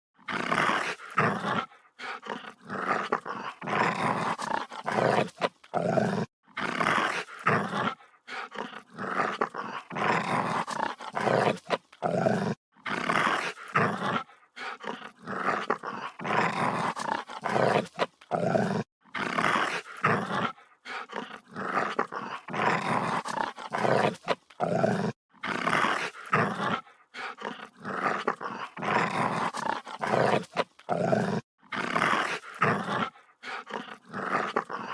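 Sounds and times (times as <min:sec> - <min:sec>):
dog growling: 0:00.2 - 0:34.9.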